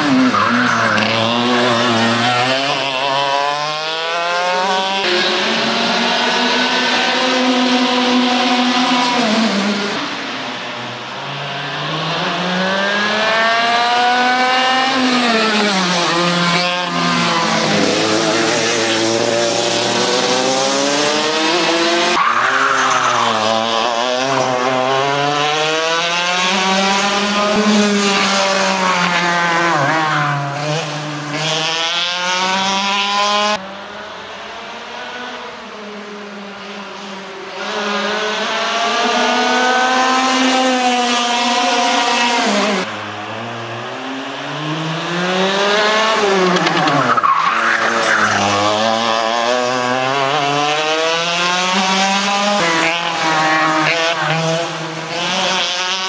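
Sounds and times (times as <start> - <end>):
go-kart engine revving: 0.0 - 35.3, 36.2 - 56.0.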